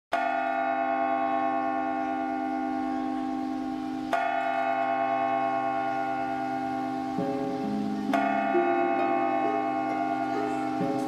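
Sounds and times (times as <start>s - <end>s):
church bell tolling: 0.1s - 11.0s.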